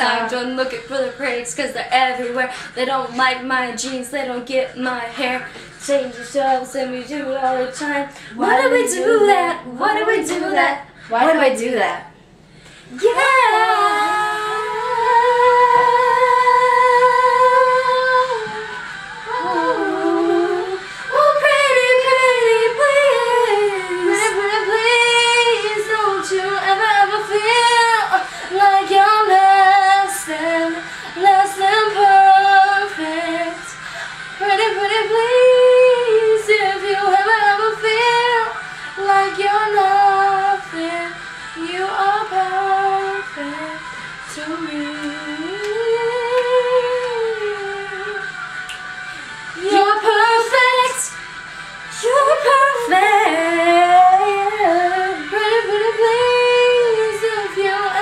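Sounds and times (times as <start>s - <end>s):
girls singing: 0.0s - 10.9s, 12.9s - 33.8s, 34.4s - 48.4s, 49.6s - 51.2s, 51.9s - 58.0s
faint pop backing track: 0.0s - 58.0s.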